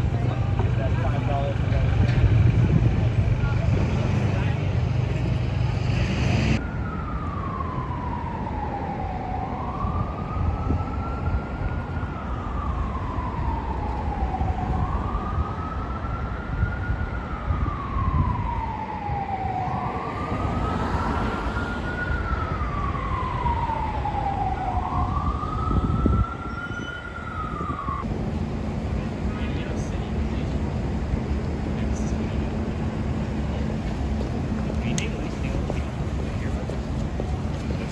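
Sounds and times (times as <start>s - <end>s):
city traffic rumble: 0.0s - 37.9s
emergency siren wailing: 0.0s - 37.9s.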